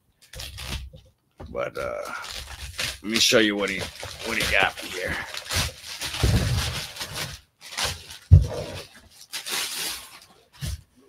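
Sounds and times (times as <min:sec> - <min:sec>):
packaging rustling and crinkling: 0:00.2 - 0:01.1, 0:01.8 - 0:11.0.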